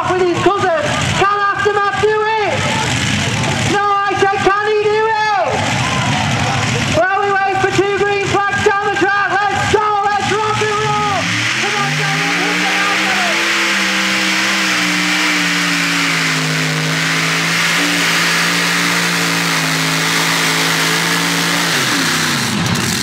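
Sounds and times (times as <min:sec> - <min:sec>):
tractor engine at full power: 0:00.0 - 0:23.0.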